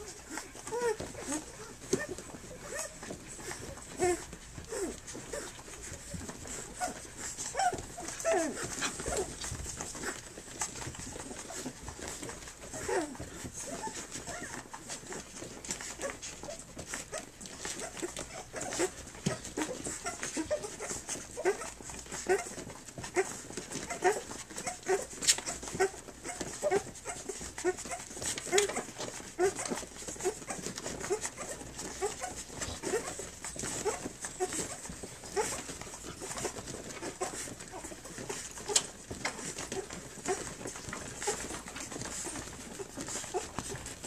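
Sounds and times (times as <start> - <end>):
puppies squeaking and grunting: 0.0 - 44.0.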